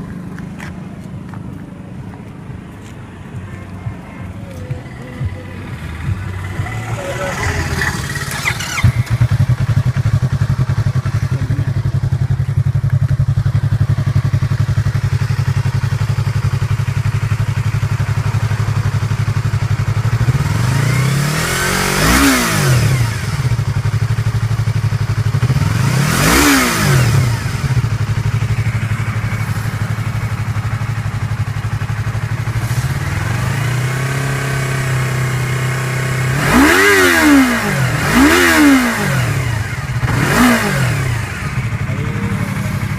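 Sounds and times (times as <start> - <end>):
motorcycle engine idling: 0.0 - 42.9
motorcycle throttle blips: 0.0 - 42.9.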